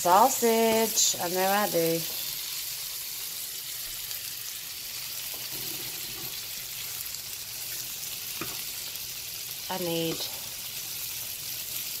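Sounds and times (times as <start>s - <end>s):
sausage sizzling in a frying pan: 0.0s - 12.0s.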